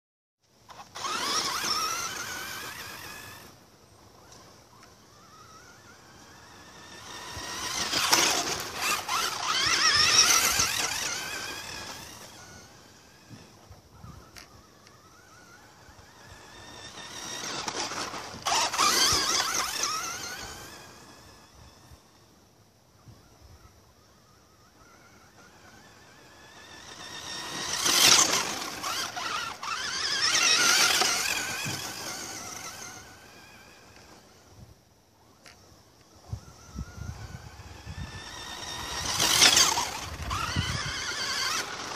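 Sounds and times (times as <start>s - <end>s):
electric toy car motor whining: 0.6s - 41.9s.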